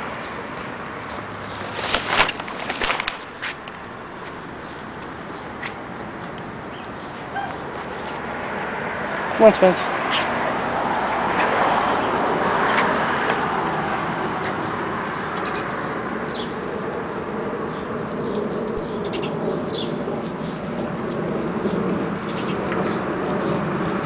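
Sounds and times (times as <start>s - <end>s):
distant traffic: 0.0s - 24.0s.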